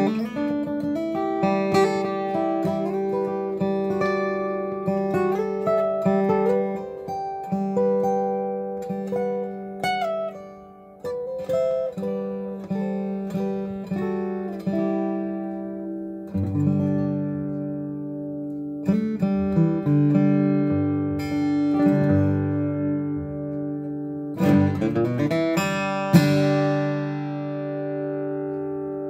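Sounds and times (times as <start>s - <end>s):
acoustic guitar melody: 0.0s - 29.0s
guitar chord strummed: 0.0s - 29.0s.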